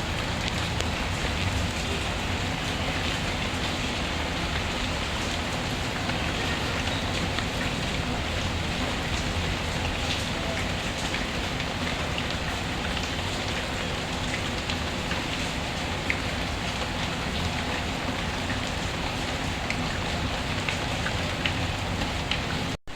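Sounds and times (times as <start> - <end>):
rain falling: 0.0 - 22.9.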